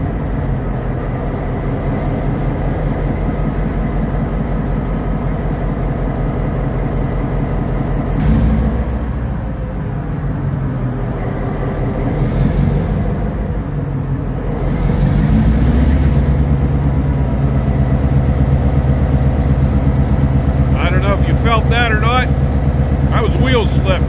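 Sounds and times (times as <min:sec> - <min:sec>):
locomotive diesel engine: 0:00.0 - 0:24.0.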